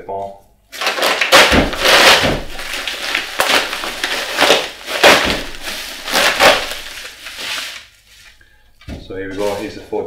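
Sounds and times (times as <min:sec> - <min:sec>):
paper packaging crinkling: 0:00.7 - 0:08.6, 0:09.2 - 0:10.0.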